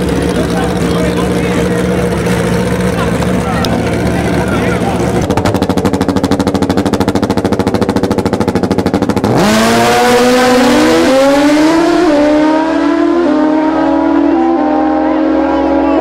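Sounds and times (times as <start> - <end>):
motorcycle engines stuttering: 0.0 - 16.0
motorcycles accelerating through gears: 0.0 - 16.0.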